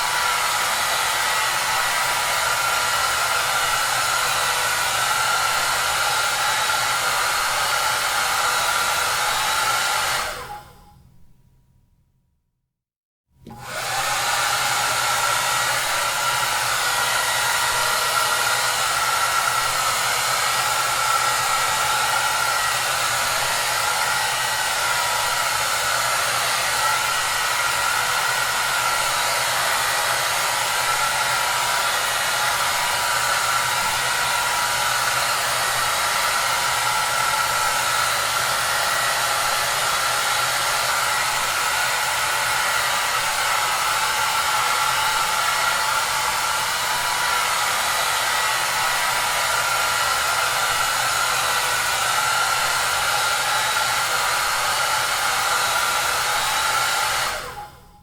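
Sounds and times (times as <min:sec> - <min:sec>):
hair dryer running: 0:00.0 - 0:10.9, 0:13.4 - 0:58.0.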